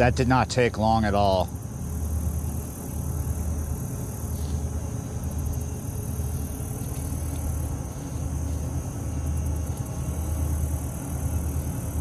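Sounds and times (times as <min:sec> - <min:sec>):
diesel engine low drone: 0:00.0 - 0:12.0.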